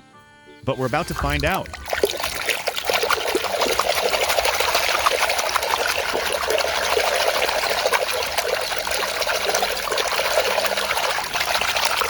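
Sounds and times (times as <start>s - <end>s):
water splashing over plastic toy: 0.8s - 12.0s.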